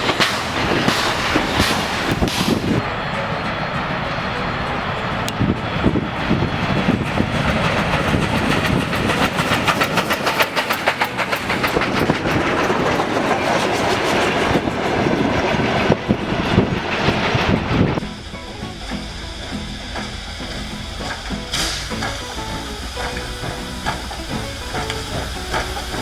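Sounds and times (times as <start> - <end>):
train rumbling: 0.0 - 26.0
train wheels clattering: 0.0 - 26.0.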